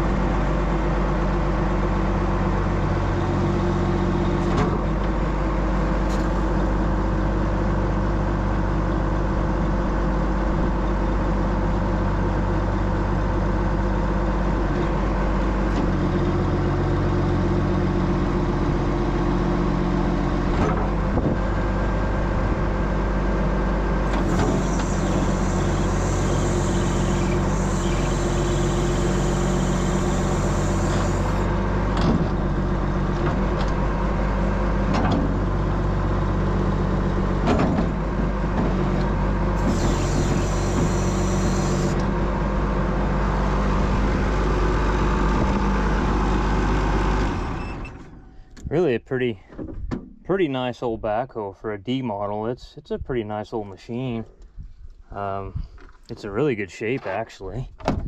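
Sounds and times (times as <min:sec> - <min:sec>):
diesel engine running: 0:00.0 - 0:49.6.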